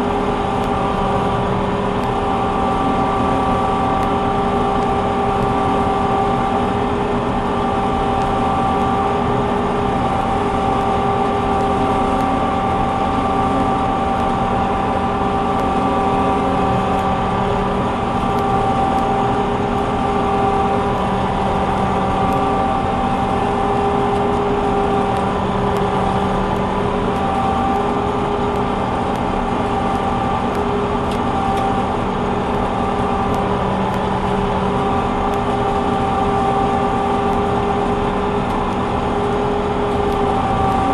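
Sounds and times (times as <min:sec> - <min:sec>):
combine harvester running: 0:00.0 - 0:40.9.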